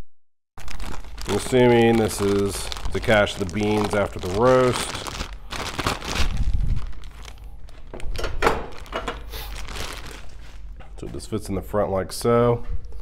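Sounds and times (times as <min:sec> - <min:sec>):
packaging crinkling and rustling: 0:00.6 - 0:11.3.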